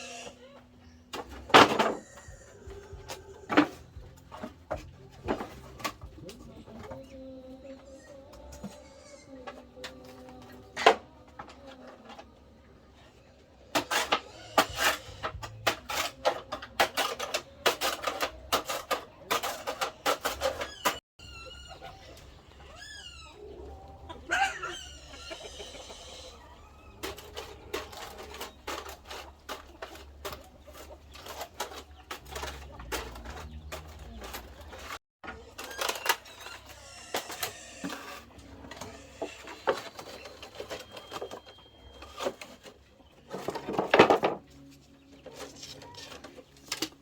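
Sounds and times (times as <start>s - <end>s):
chickens clucking: 0.0s - 47.0s.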